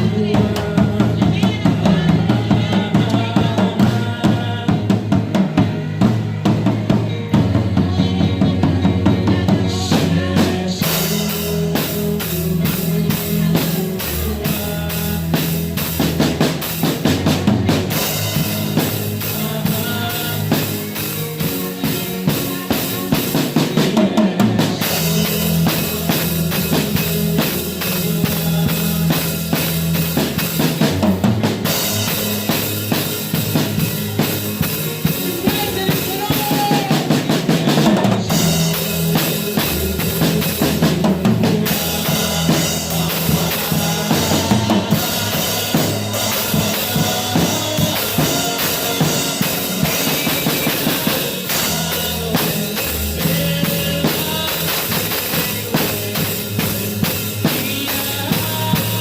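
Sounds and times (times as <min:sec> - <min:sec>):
drum kit playing: 0:00.0 - 0:59.0
sustained bass notes: 0:00.0 - 0:59.0.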